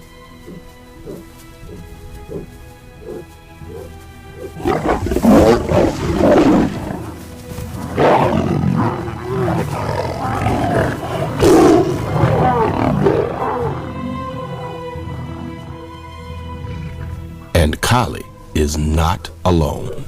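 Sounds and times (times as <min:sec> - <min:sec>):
dramatic music: 0:00.0 - 0:20.0
lion roaring and growling: 0:00.4 - 0:17.4.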